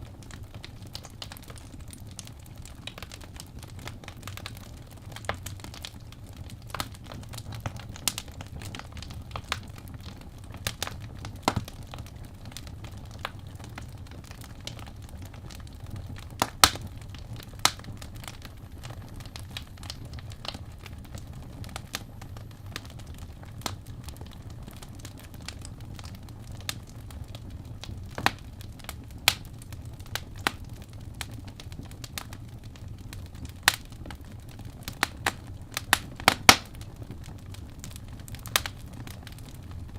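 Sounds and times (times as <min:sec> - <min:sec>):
fireplace crackling: 0:00.0 - 0:39.9
low steady rumble: 0:00.0 - 0:39.9.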